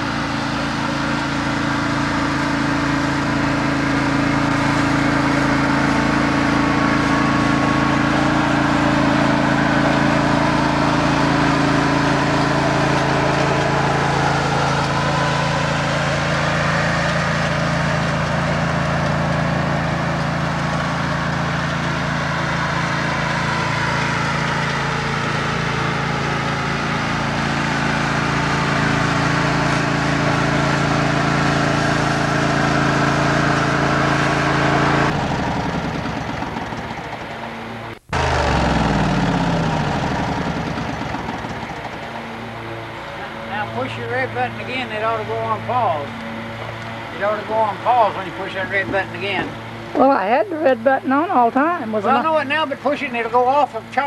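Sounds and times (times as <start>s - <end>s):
lawn mower engines droning: 0.0s - 54.0s.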